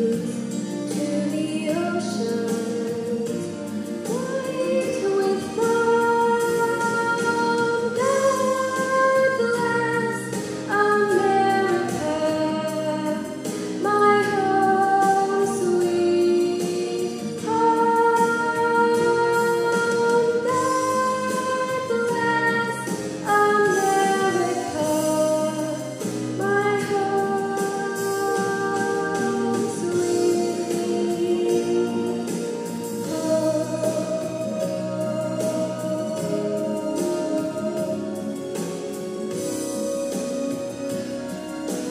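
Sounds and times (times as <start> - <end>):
upright piano accompaniment: 0.0 - 41.9
woman singing into microphone: 0.0 - 41.9.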